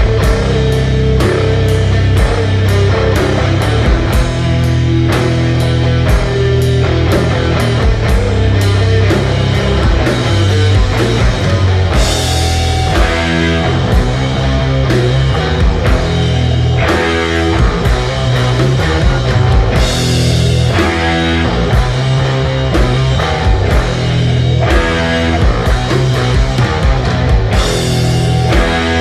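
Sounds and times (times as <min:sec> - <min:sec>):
drums and crashing cymbals: 0:00.0 - 0:29.0
heavy electric guitars and bass: 0:00.0 - 0:29.0.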